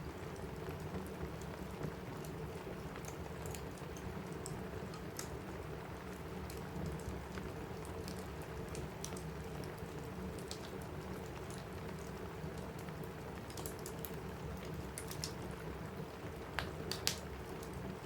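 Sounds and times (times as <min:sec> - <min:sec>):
rain on a roof: 0:00.0 - 0:18.0
wood fire crackling: 0:00.0 - 0:18.0.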